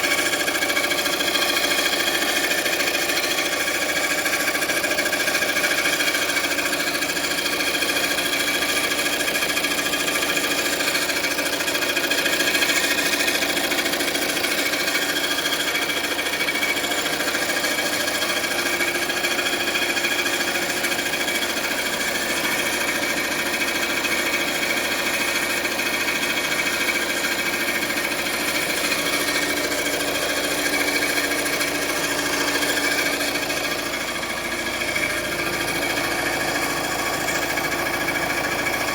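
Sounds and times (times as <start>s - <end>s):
engine clattering and ticking: 0.0s - 38.9s.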